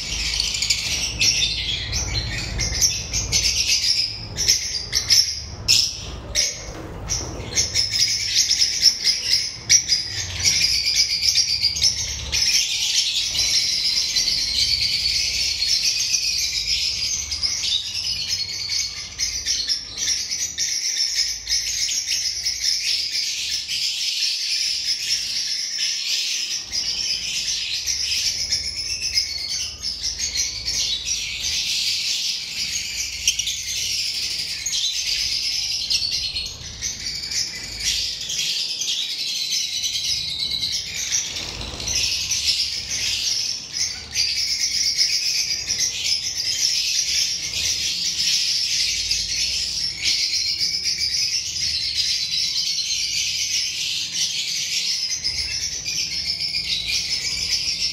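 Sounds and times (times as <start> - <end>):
flock of birds chirping: 0.0 - 57.9.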